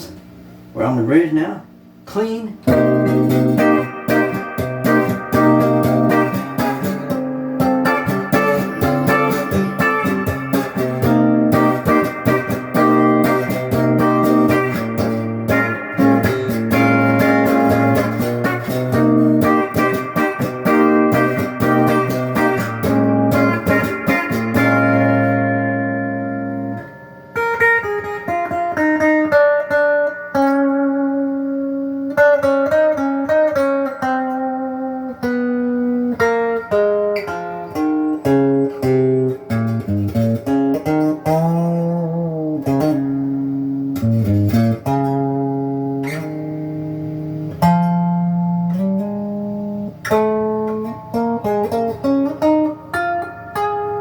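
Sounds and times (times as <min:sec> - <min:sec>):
clean electric guitar: 0:00.0 - 0:54.0.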